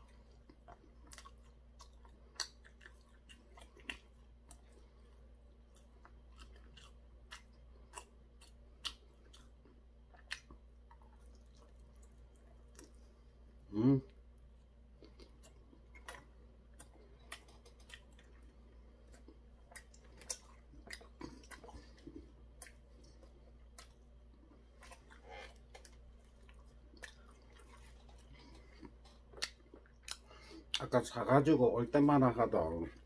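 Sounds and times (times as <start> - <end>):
chewing fried food: 0.0 - 33.0.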